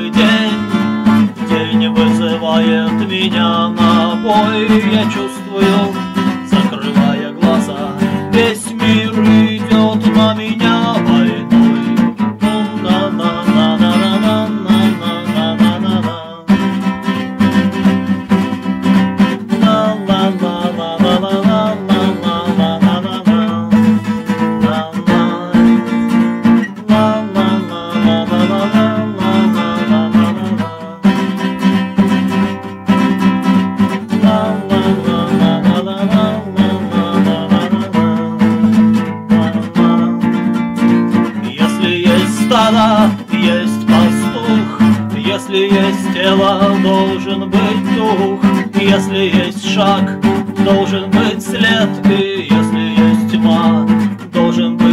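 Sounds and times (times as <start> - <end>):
acoustic guitar strumming chords: 0.0 - 54.9.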